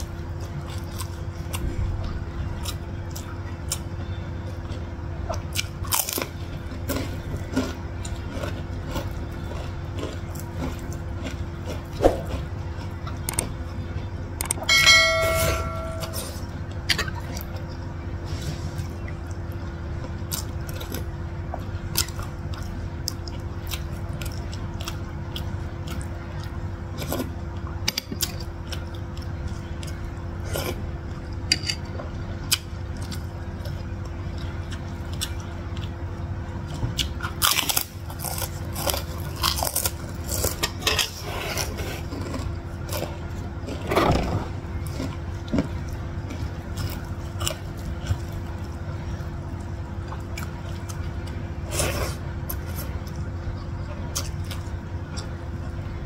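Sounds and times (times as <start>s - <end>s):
chewing and biting: 0.0s - 14.7s, 18.8s - 55.8s
faint steady hum: 0.0s - 56.0s.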